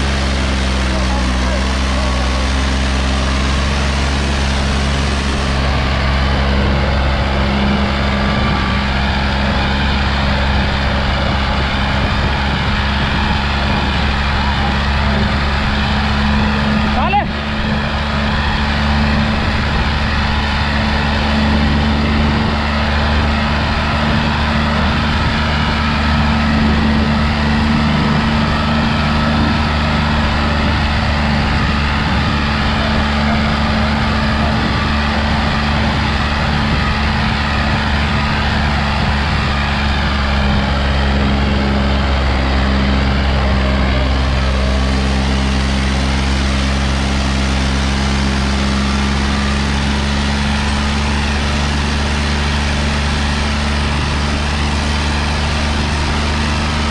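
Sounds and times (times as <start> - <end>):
tractor diesel engine under load: 0.0 - 56.9.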